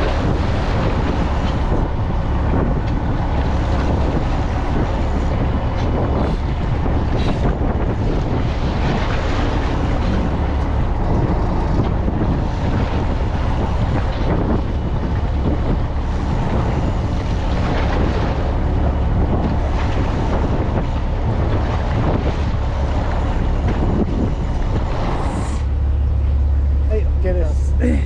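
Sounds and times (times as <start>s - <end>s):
wind noise on microphone: 0.0s - 27.0s
boat engine humming: 0.0s - 28.0s.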